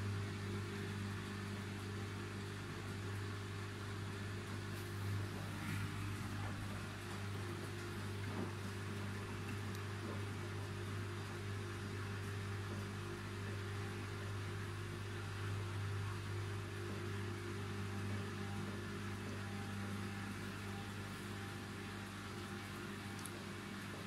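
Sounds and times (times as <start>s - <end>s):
washing machine motor hum: 0.0s - 24.0s
washing machine tumbling laundry: 0.0s - 24.0s.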